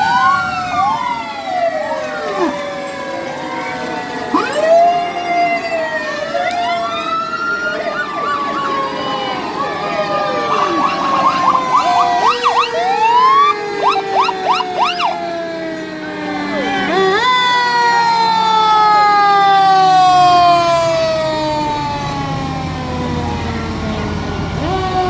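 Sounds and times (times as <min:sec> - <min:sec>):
fast yelping siren: 0:00.0 - 0:25.0
wailing sirens: 0:00.0 - 0:25.0.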